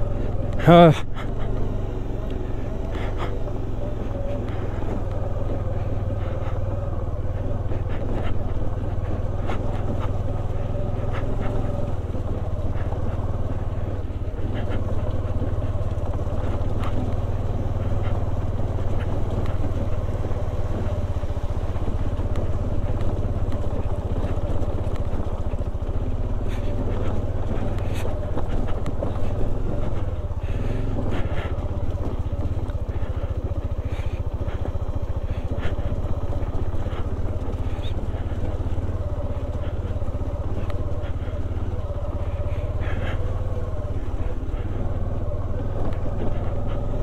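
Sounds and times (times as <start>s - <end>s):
loose rock clicking under tyres: 0.0s - 47.0s
motorcycle engine at low revs: 0.0s - 47.0s.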